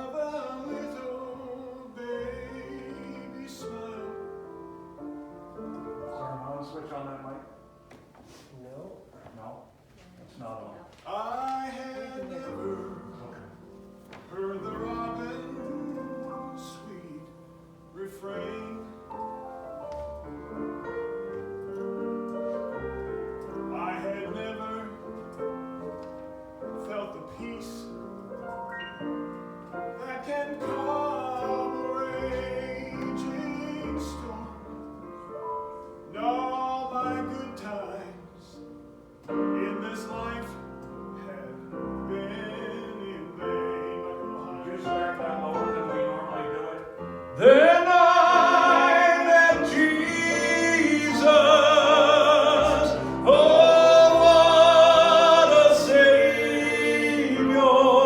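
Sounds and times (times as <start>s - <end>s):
gospel singing: 0.0s - 7.6s, 10.4s - 58.0s
piano accompaniment: 0.0s - 58.0s.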